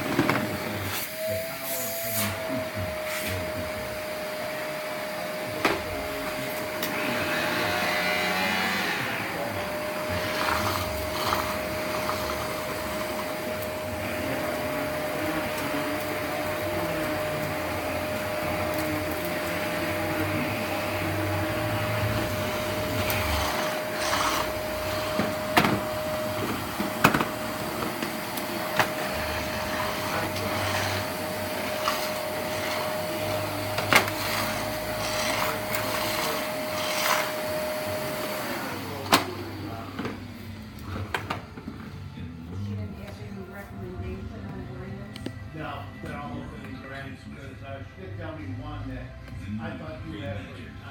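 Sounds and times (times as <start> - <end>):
vacuum cleaner running: 0.0 - 46.6.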